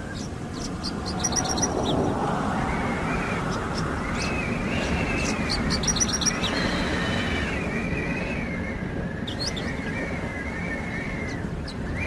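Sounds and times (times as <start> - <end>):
lark singing high chirps: 0.0 - 8.4, 9.2 - 12.0
wind blowing: 0.0 - 12.0.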